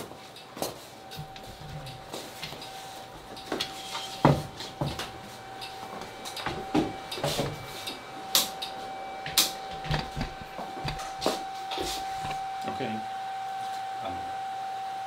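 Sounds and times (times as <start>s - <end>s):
footsteps and small knocks: 0.0s - 12.4s
high-pitched electrical whine: 0.0s - 15.0s.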